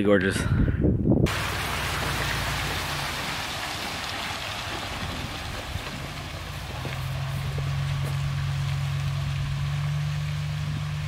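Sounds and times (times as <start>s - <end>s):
truck diesel engine running: 1.3s - 11.0s.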